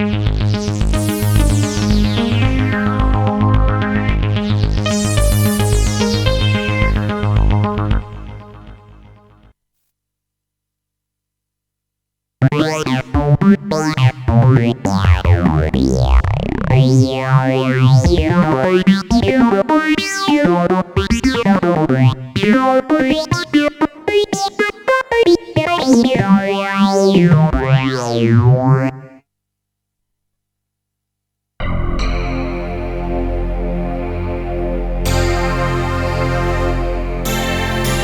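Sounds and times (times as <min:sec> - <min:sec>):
synthesizer with sweeping filter: 0:00.0 - 0:09.4, 0:12.5 - 0:29.2, 0:31.6 - 0:38.0.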